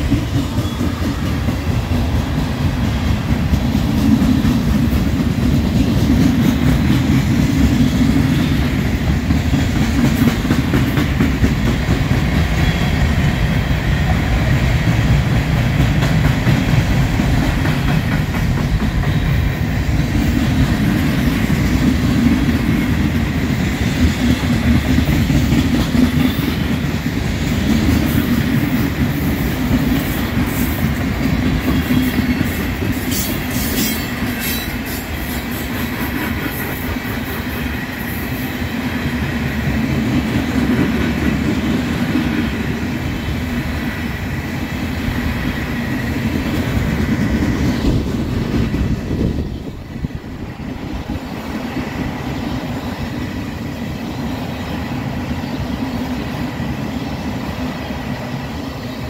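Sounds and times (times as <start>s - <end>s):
clickety-clack over rail joints: 0.0s - 53.8s
freight train wheels rumbling: 0.0s - 59.0s.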